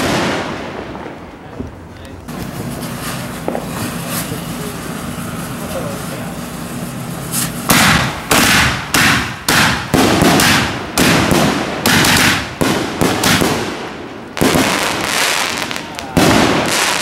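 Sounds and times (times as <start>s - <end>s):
firework bangs: 0.0s - 17.0s.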